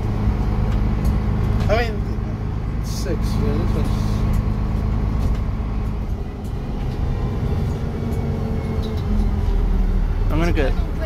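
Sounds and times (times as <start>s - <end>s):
diesel bus engine rumbling: 0.0s - 11.0s.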